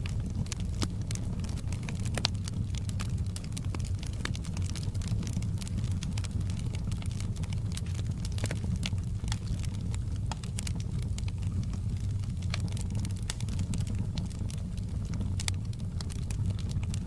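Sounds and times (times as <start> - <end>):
campfire wood crackling and popping: 0.0 - 17.0
low fire rumble: 0.0 - 17.0.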